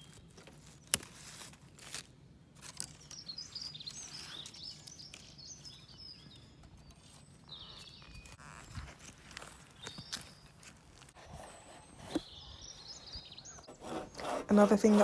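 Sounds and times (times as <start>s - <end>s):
small birds chirping: 2.5s - 15.0s.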